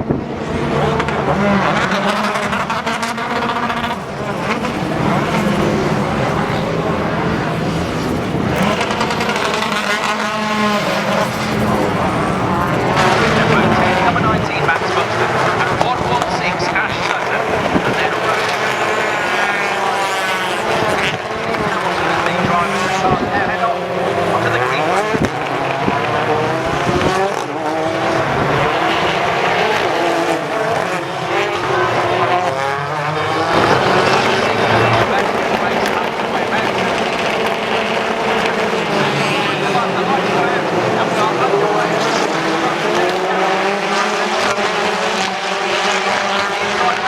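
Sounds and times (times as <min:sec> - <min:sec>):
racing cars passing at high revs: 0:00.0 - 0:47.0.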